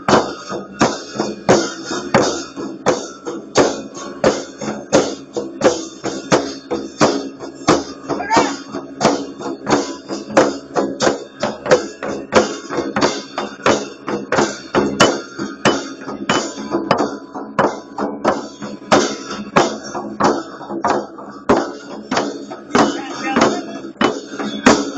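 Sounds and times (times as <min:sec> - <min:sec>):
frame drums beaten: 0:00.0 - 0:24.9.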